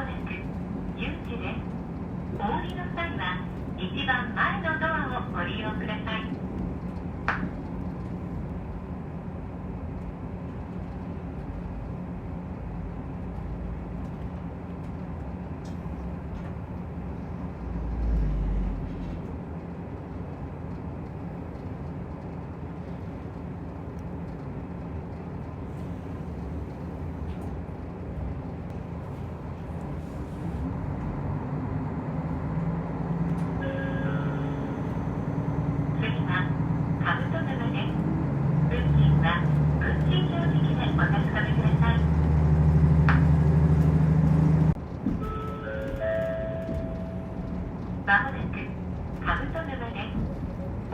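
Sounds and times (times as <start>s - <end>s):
railcar engine drone: 0.0s - 50.9s
wheel and rail rumble: 0.0s - 50.9s.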